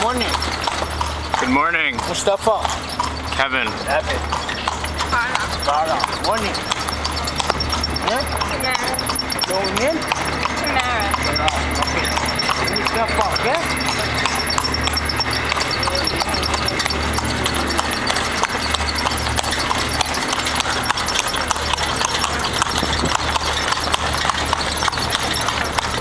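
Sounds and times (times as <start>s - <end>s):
horse hooves clip-clopping: 0.0s - 26.0s
low steady rumble: 0.0s - 26.0s.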